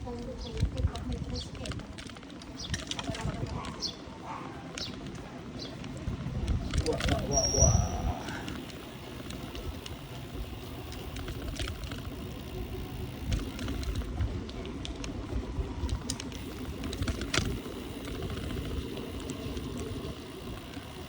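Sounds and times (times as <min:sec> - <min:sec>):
bicycle tyres rumbling: 0:00.0 - 0:21.0
bike clicks and rattles: 0:00.0 - 0:21.0.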